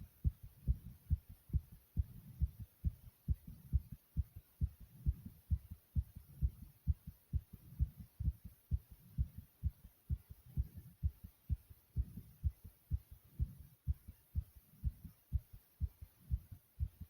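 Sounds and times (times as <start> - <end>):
heart beating fast: 0.0 - 17.0.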